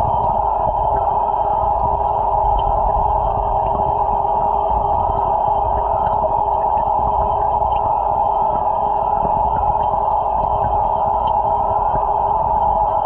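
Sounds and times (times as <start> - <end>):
underwater hum and hiss: 0.0 - 13.0.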